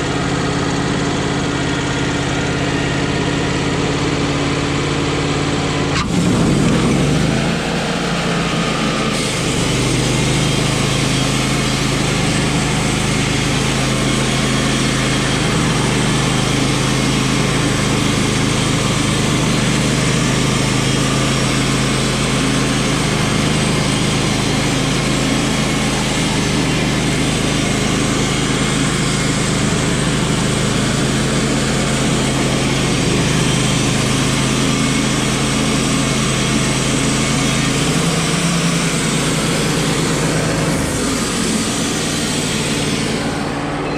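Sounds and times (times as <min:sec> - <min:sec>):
band sawmill engine humming: 0:00.0 - 0:43.9.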